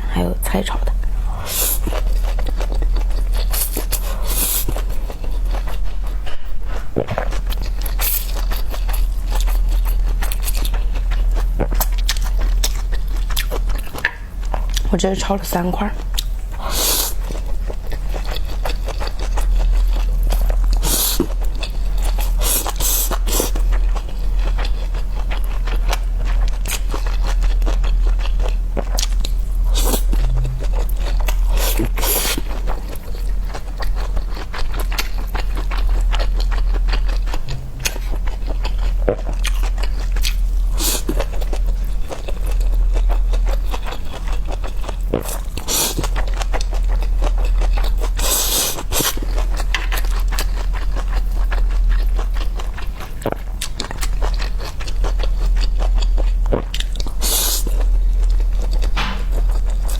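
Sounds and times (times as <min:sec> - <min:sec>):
steady low hum: 0:00.0 - 0:59.9
person chewing and crunching: 0:01.4 - 0:14.9, 0:16.0 - 0:59.9.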